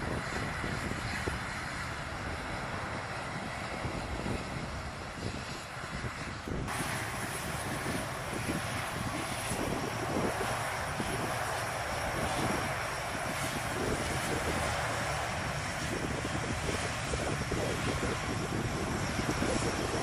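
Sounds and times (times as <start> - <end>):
turboprop engines running: 0.0 - 20.0.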